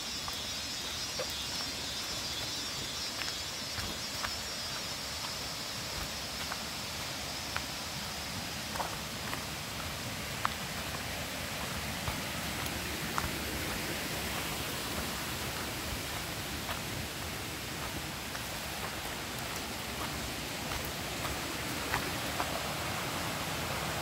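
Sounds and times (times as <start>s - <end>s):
forest ambience hiss: 0.0s - 24.0s
footsteps on dirt trail: 0.1s - 24.0s.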